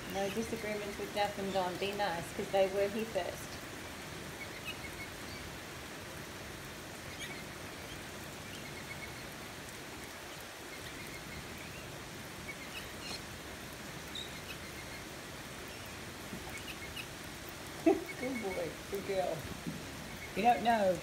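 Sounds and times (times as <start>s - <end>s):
birds chirping: 0.0s - 5.9s, 6.9s - 21.0s
rain on wooden deck: 0.0s - 21.0s.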